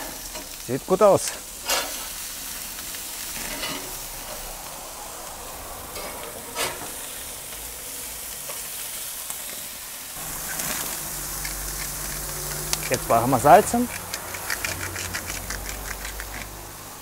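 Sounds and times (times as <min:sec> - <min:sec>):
burger patties sizzling on grill: 0:00.0 - 0:17.0.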